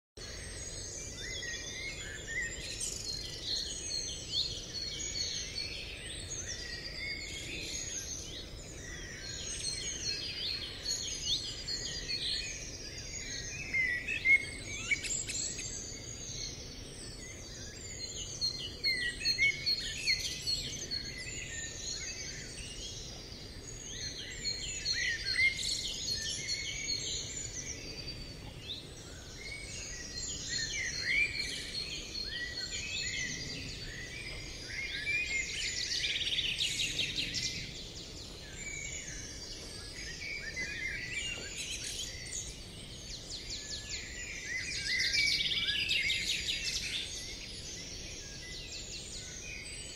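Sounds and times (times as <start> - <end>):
songbirds singing and chirping: 0.2 - 49.9.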